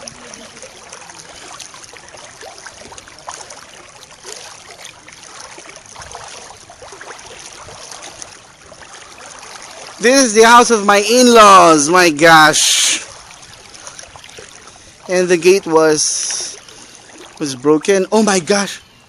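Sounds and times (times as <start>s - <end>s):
floodwater sloshing and splashing: 0.0s - 18.7s.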